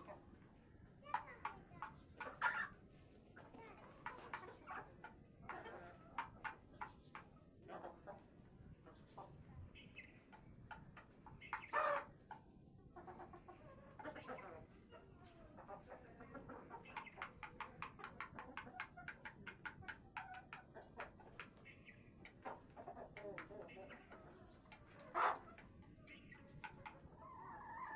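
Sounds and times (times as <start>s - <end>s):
beaks pecking at feed: 0.0s - 8.2s, 9.8s - 15.0s, 15.6s - 27.9s
hens clucking: 0.0s - 27.9s.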